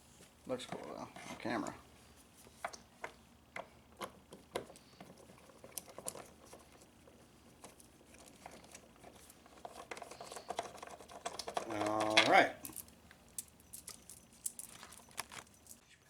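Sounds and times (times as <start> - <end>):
hand tools clicking on screws: 2.6 - 15.8.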